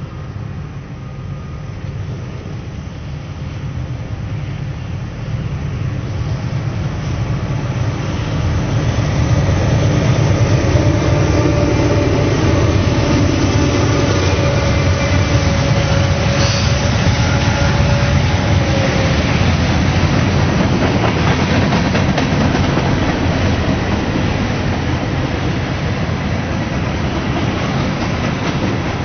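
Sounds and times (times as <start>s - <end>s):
diesel locomotive rumble: 0.0s - 29.0s
freight cars rolling past: 0.0s - 29.0s.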